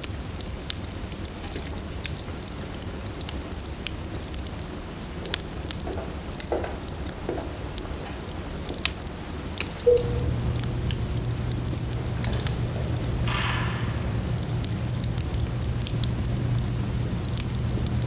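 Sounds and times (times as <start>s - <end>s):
wood fire crackling: 0.7s - 18.0s.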